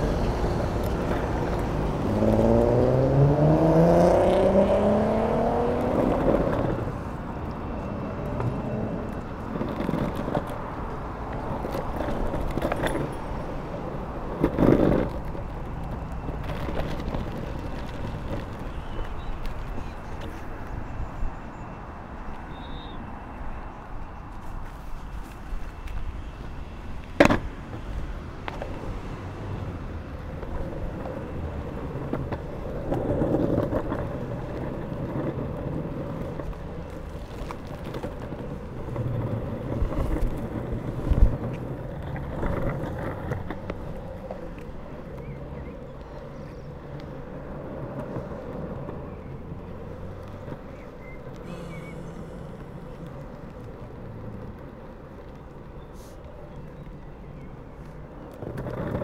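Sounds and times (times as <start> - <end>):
skateboard wheels rolling on asphalt: 0.0 - 59.0.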